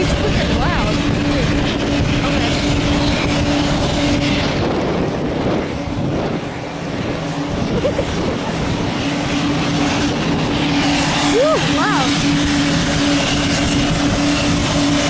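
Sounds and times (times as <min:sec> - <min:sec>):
jet turbine engines drone: 0:00.0 - 0:15.0.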